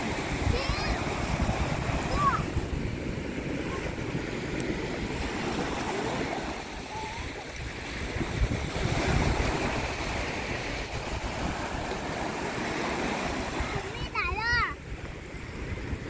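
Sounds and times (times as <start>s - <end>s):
waves washing up a beach: 0.0s - 16.0s.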